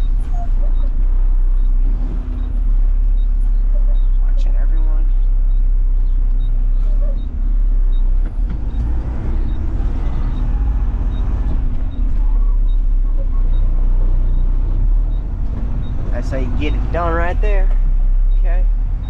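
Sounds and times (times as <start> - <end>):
garbage truck diesel engine: 0.0 - 19.0.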